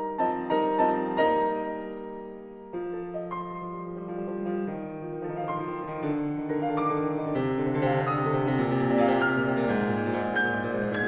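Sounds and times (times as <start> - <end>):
slow classical solo piano: 0.0 - 11.0.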